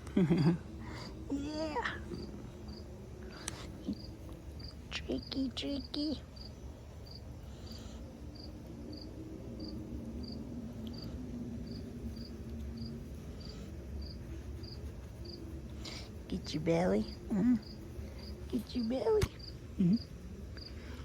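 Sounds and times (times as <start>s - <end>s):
faint low hum: 0.0s - 21.0s
cricket chirping: 0.2s - 16.1s, 17.0s - 21.0s.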